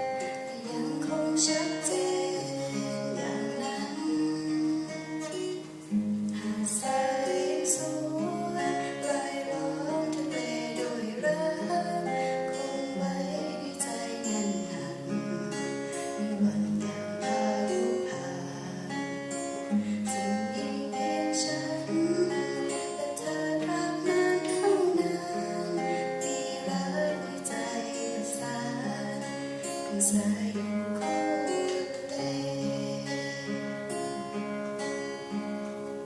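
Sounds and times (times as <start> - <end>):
classical guitar fingerstyle: 0.0 - 36.0.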